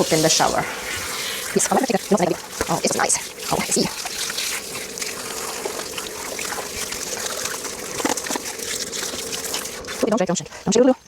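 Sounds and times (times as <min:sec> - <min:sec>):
shower water spraying: 0:00.0 - 0:10.5.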